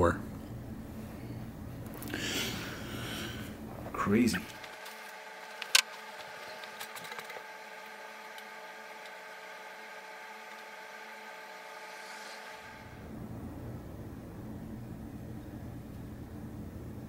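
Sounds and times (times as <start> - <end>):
pitched background hum: 0.0 - 17.0.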